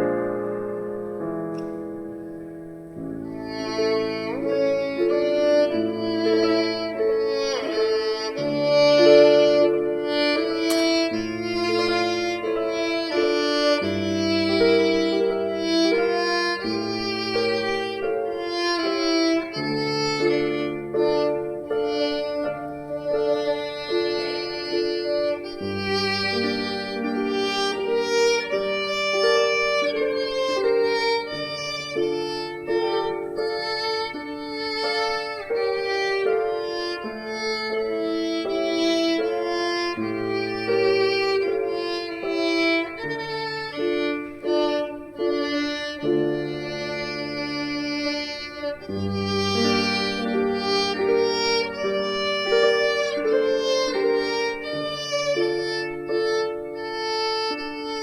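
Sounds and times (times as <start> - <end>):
sustained lower accompaniment: 0.0 - 58.0
violin music: 0.0 - 58.0.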